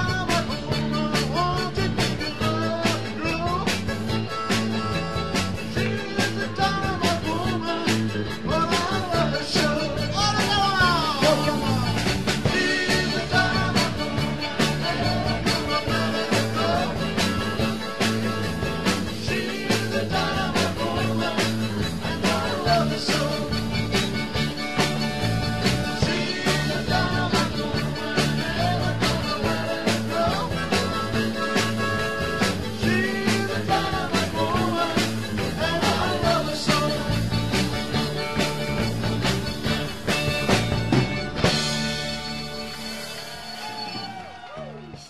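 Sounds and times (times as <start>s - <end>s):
steady drum beat: 0.0s - 43.7s
live rock band playing: 0.0s - 45.0s.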